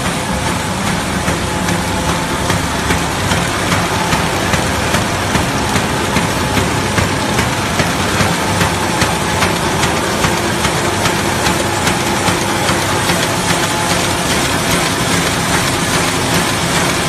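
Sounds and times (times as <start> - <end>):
machine clatter: 0.0 - 17.0.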